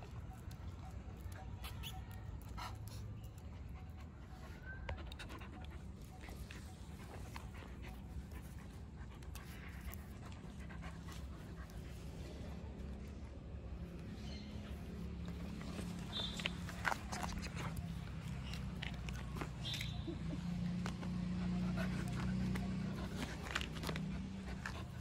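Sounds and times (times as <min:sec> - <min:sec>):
dog panting: 0:00.3 - 0:25.0.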